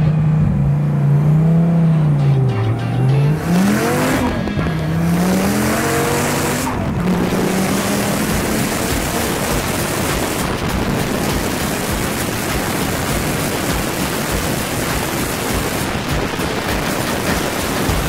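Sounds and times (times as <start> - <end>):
wind rush buffeting car: 3.4 - 18.0.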